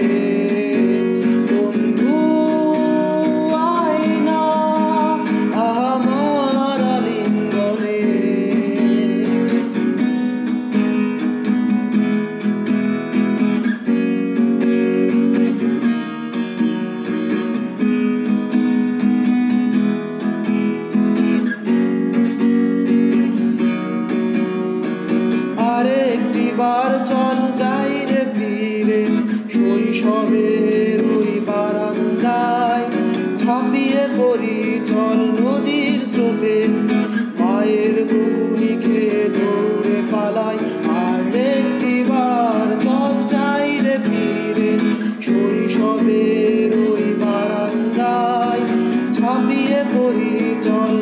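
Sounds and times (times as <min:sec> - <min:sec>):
strummed acoustic guitar: 0:00.0 - 0:51.0.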